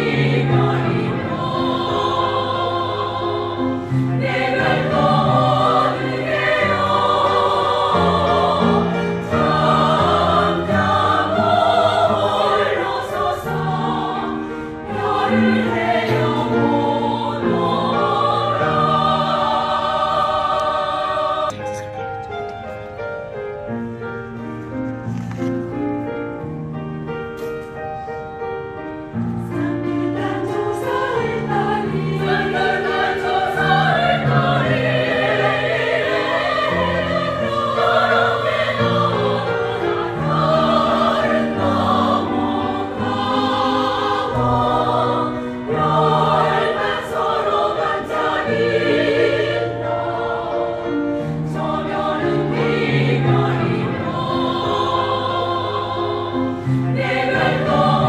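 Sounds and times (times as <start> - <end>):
choir singing: 0.0 - 22.0, 29.1 - 58.0.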